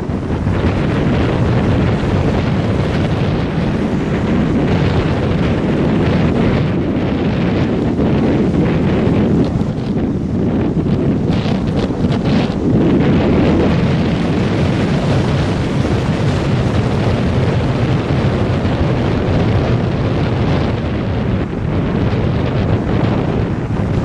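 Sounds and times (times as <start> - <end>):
sea washing against rocks: 0.0 - 24.0
wind buffeting microphone: 0.0 - 24.0.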